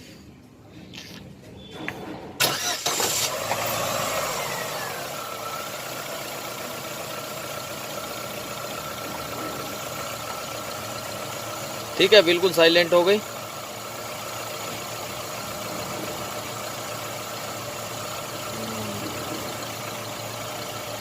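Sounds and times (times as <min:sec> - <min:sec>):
car engine starting and idling: 0:02.4 - 0:21.0.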